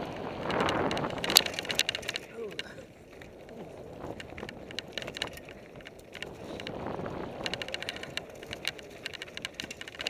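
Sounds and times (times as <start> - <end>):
bike clicking and rattling: 0.0 - 10.0
tyre and wind rush: 0.0 - 10.0.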